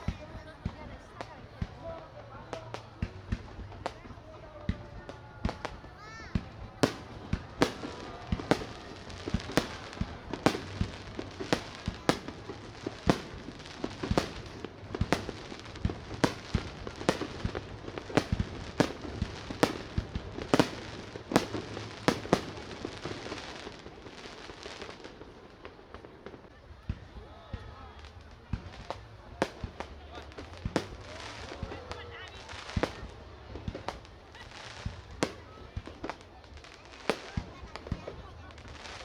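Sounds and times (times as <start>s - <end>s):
fireworks crackle: 0.0s - 39.0s.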